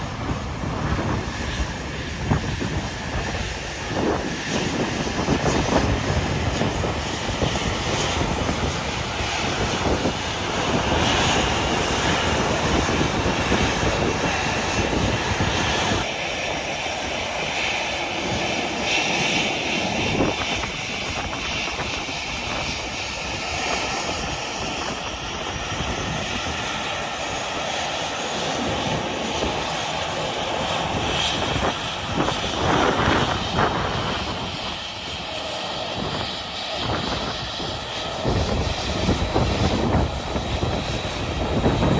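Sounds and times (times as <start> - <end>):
airliner engines running: 0.0 - 41.9
wind buffeting microphone: 0.0 - 41.9.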